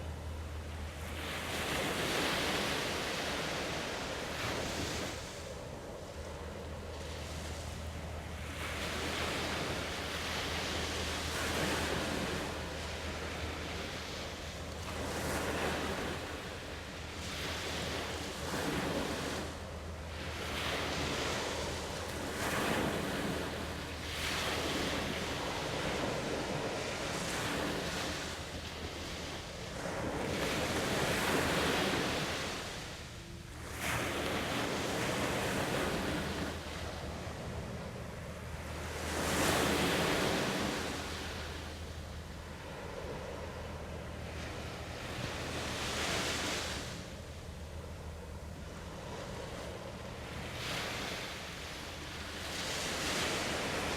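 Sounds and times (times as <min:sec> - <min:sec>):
steady low hum: 0:00.0 - 0:53.9
waves washing in: 0:00.0 - 0:53.9.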